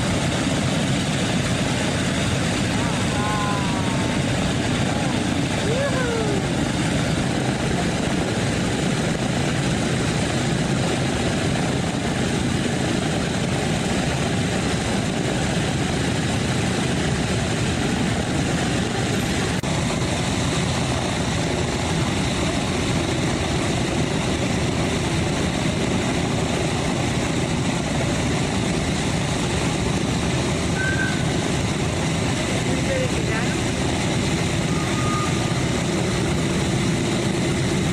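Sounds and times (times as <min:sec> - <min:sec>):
aircraft engines idling rumble: 0:00.0 - 0:37.9.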